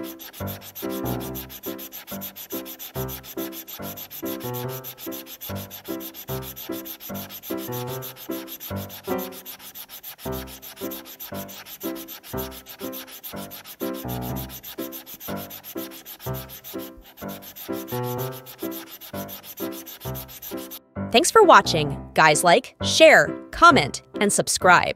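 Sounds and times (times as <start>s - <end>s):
scratchy rubbing texture: 0.0s - 20.8s.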